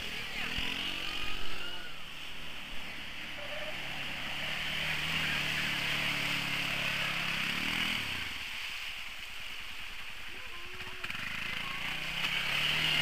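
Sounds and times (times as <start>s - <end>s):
atv engine churning through mud: 0.0s - 13.0s.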